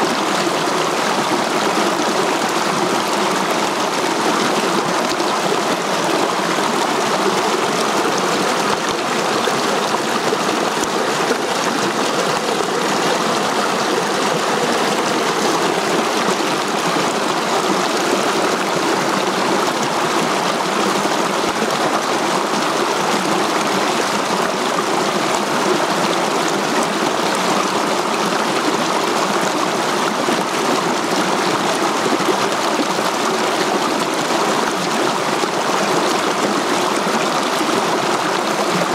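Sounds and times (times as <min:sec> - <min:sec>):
stream rushing over boulders: 0:00.0 - 0:38.9.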